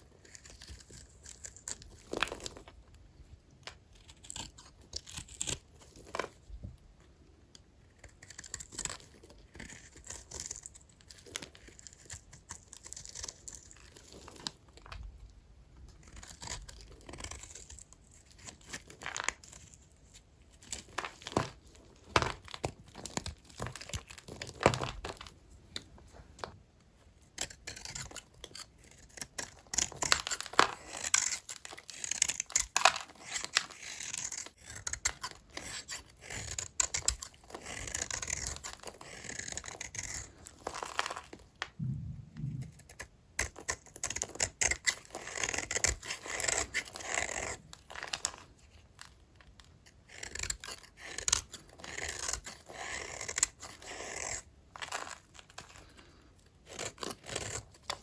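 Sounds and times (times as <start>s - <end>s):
blade cutting dry soap: 0.1s - 2.8s, 7.5s - 15.1s, 15.9s - 26.5s, 27.2s - 41.8s, 42.8s - 58.0s.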